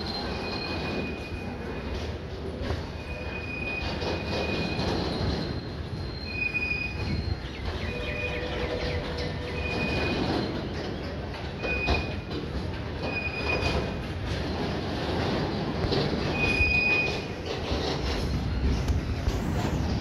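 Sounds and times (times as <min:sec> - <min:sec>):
freight train rumble: 0:00.0 - 0:20.0
freight train wheels squealing: 0:00.0 - 0:20.0.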